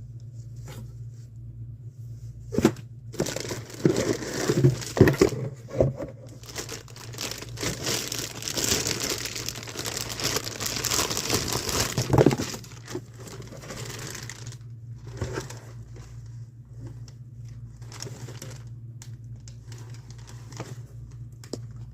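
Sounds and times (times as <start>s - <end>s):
steady low hum: 0.0s - 21.9s
packaging crinkling and rustling: 2.6s - 21.9s.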